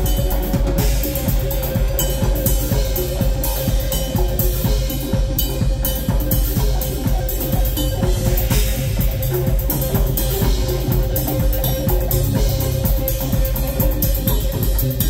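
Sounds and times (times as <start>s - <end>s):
drum kit beat: 0.0s - 15.0s
electric bass: 0.0s - 15.0s.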